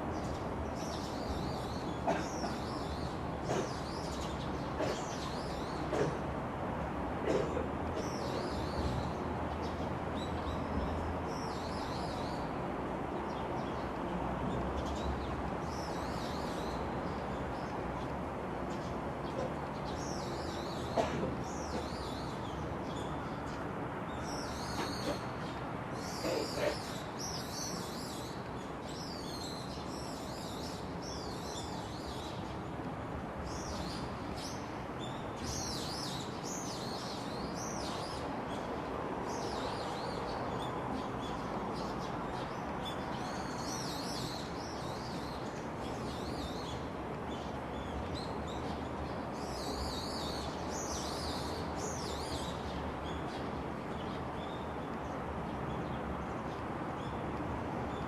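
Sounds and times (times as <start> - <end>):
low background noise: 0.0 - 58.0
songbirds chirping: 0.0 - 58.0.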